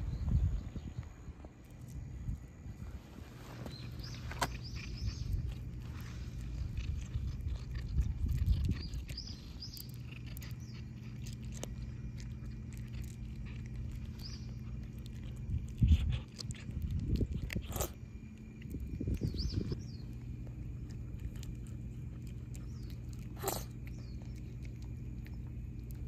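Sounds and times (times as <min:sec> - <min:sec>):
low rumble: 0:00.0 - 0:26.0
cat chewing dry kibble: 0:01.5 - 0:02.6, 0:03.7 - 0:26.0.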